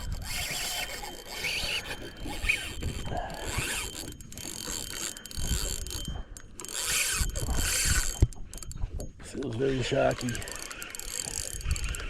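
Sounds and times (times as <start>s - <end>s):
fishing reel clicking: 0.0s - 8.8s, 9.4s - 12.0s.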